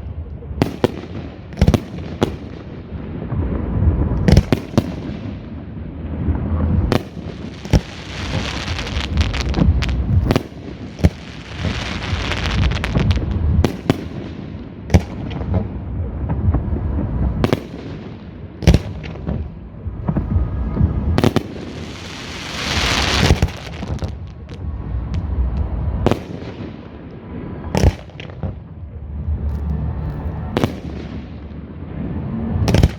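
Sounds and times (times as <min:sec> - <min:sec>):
fireworks crackling: 0:00.0 - 0:32.9
low rumble: 0:00.0 - 0:32.9.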